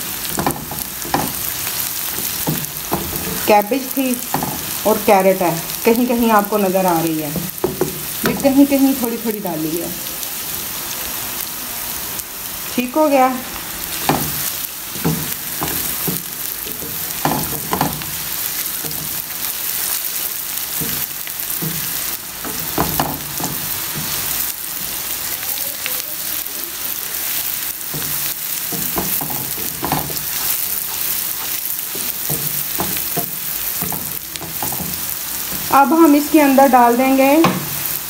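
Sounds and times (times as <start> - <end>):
vegetables sizzling in hot oil: 0.0 - 38.0.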